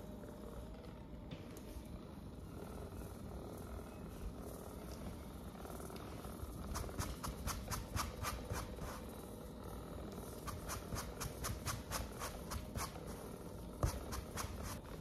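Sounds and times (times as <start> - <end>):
massage gun buzzing: 0.0 - 15.0.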